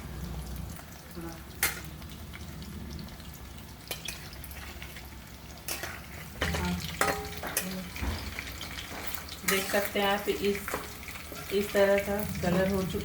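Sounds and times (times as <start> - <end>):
chicken deep-frying in hot oil: 0.0 - 13.0.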